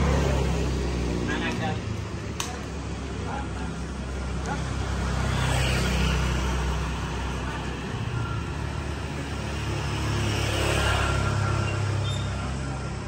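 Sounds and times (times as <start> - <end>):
motorbikes passing: 0.0 - 13.0
street traffic: 0.0 - 13.0.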